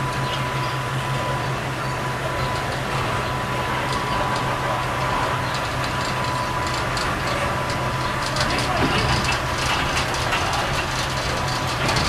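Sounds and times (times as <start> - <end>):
high whine: 0.0 - 12.0
low engine drone: 0.0 - 12.0.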